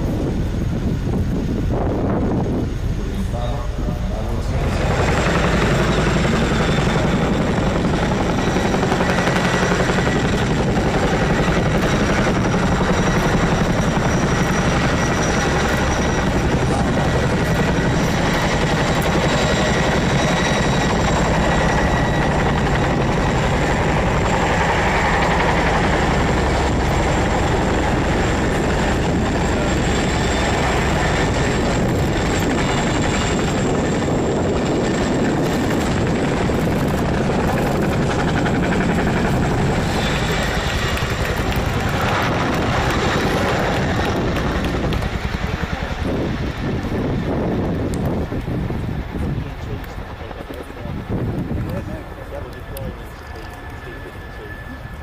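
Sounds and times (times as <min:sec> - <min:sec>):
helicopter rotors beating: 0:00.0 - 0:55.0
turbines whining: 0:00.0 - 0:55.0.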